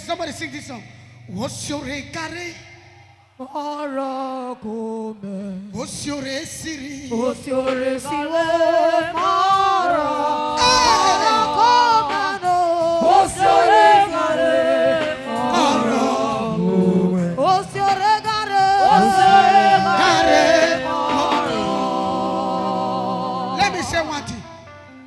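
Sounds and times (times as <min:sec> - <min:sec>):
voices singing a church song: 0:03.4 - 0:25.0.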